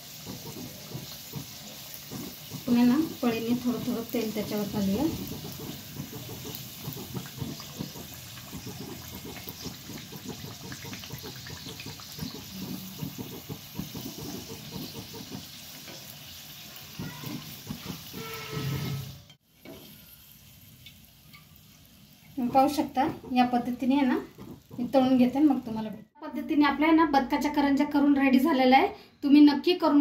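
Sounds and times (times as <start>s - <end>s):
deep-frying in hot oil sizzling: 0.0s - 26.1s.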